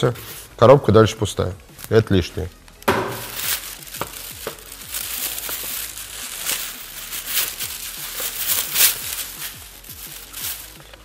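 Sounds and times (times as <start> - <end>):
plastic bag crinkling: 1.6 - 11.0.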